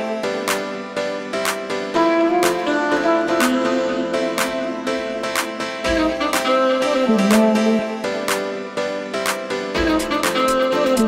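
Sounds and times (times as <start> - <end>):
instrumental music with soft beat: 0.0 - 11.0.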